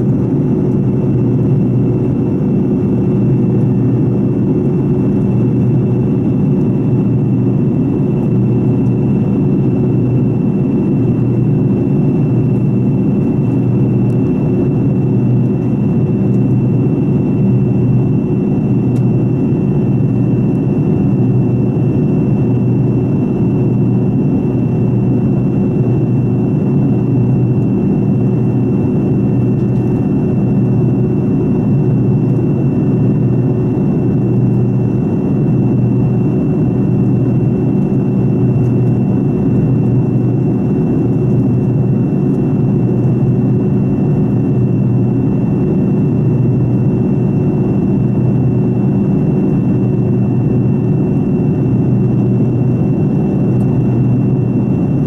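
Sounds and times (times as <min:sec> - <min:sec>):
jet engine roar in cabin: 0:00.0 - 0:55.0.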